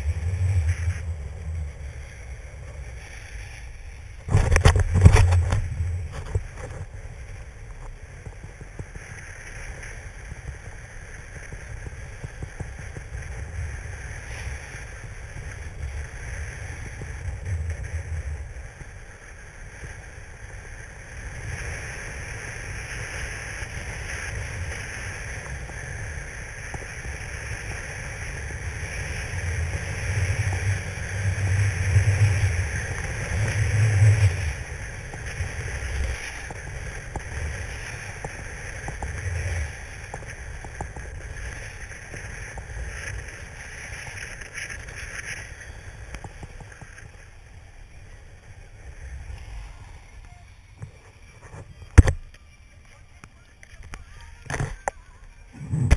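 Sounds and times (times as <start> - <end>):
snowboard hissing on snow: 0.0 - 4.2, 8.9 - 51.3, 55.5 - 55.9
wind rumbling on microphone: 0.0 - 52.4, 53.2 - 55.9.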